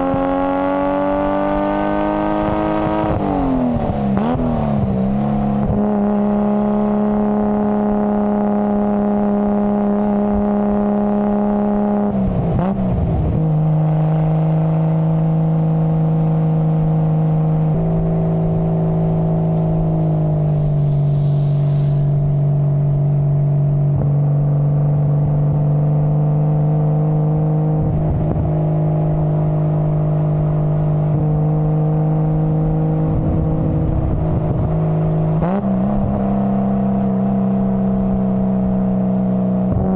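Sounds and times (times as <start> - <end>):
car engine running with gear shifts: 0.0 - 39.9.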